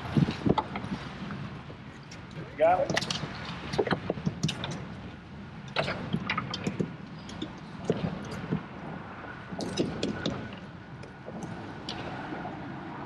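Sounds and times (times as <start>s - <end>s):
water slapping against boat hull: 0.0s - 12.5s.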